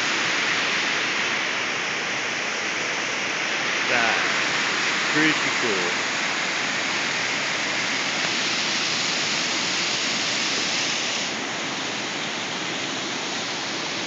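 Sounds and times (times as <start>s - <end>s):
white water rushing over rocks: 0.0s - 14.0s.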